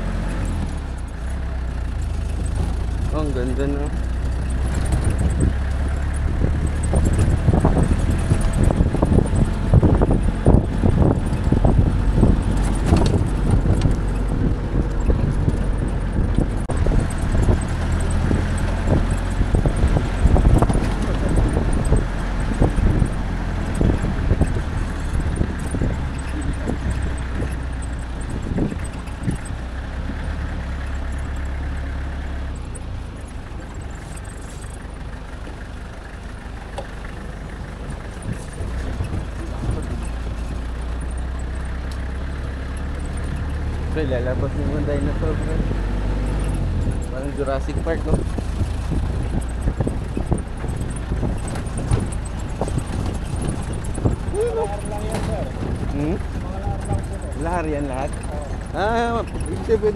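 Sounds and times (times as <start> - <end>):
knocks and rattles: 0.0 - 59.9
vehicle engine running: 0.0 - 59.9.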